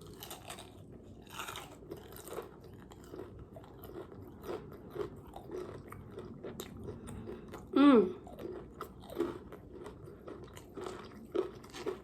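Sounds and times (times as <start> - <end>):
crunchy chewing of fried chicken: 0.0 - 12.0.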